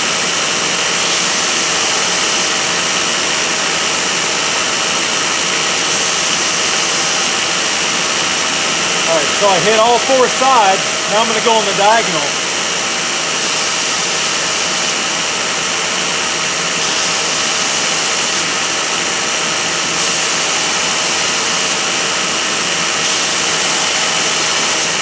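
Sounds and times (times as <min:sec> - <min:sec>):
grinder running: 0:00.0 - 0:25.0
metal hissing against grinder: 0:00.7 - 0:15.4, 0:16.6 - 0:18.5, 0:20.0 - 0:25.0.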